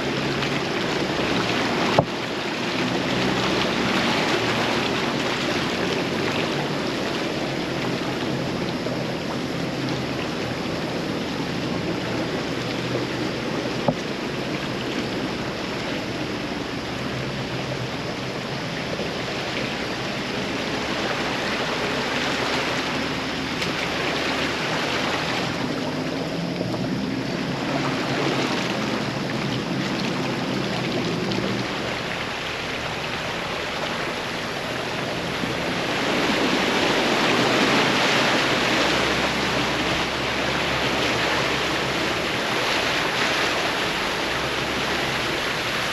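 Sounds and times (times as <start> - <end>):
engine humming: 0.0 - 45.9
water rushing and splashing: 0.0 - 45.9.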